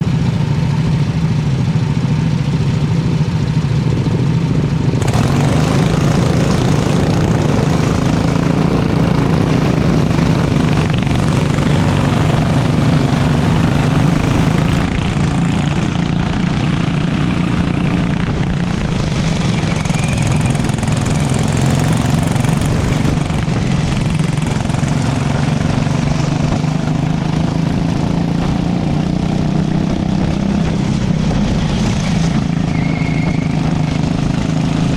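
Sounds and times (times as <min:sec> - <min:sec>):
broad rush of noise: 0:00.0 - 0:34.9
go-kart engine running: 0:00.0 - 0:34.9.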